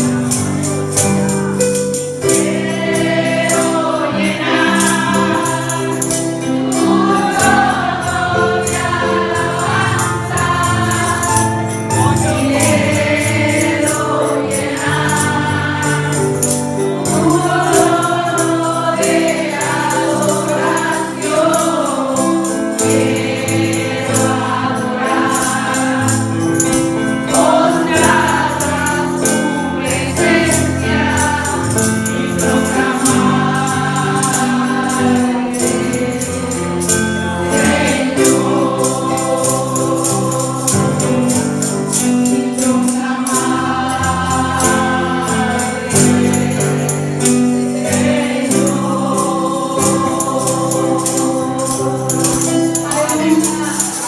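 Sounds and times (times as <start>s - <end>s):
group singing gospel song: 0.0s - 54.0s
instrumental accompaniment: 0.0s - 54.0s
tambourine shaken: 0.0s - 54.0s.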